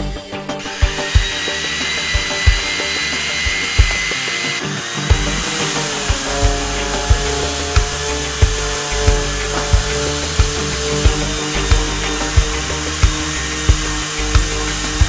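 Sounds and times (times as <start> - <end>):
background music with steady beat: 0.0 - 15.0
orbital sander buzzing: 0.6 - 15.0.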